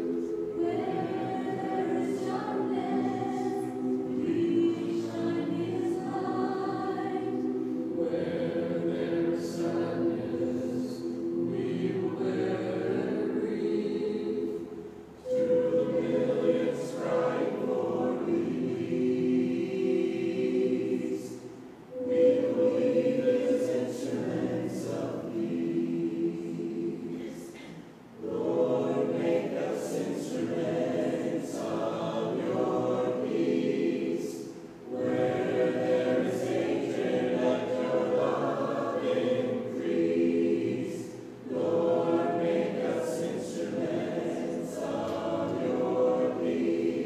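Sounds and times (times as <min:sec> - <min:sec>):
congregation singing a hymn: 0:00.0 - 0:47.0.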